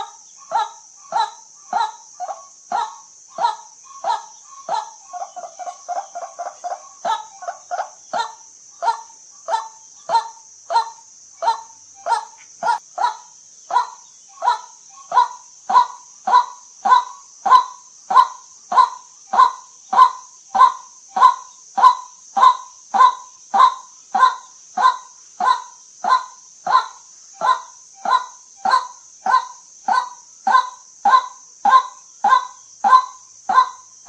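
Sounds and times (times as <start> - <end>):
waterhen calling: 0.0 - 33.8
steady high hiss: 0.0 - 34.0.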